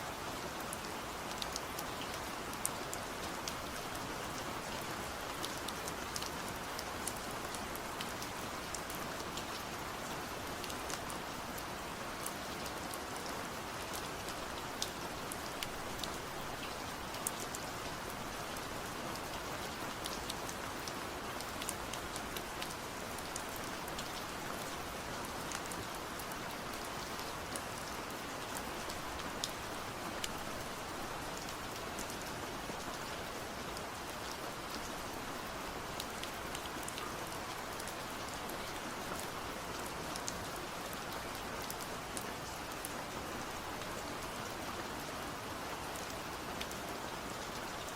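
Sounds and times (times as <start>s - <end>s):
steady rain hissing: 0.0s - 47.9s
raindrops ticking on a surface: 0.1s - 47.9s.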